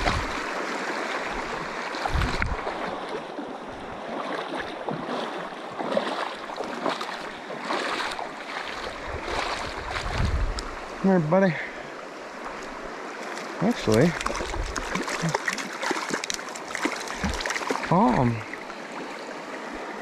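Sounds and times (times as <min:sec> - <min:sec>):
river water rushing over rocks: 0:00.0 - 0:10.0, 0:10.6 - 0:20.0.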